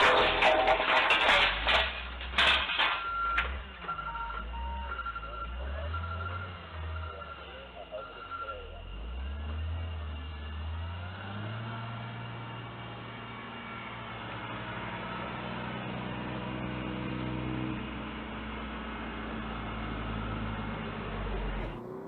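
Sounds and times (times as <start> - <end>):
road noise: 0.0 - 22.0
vehicle engine humming: 0.0 - 22.0.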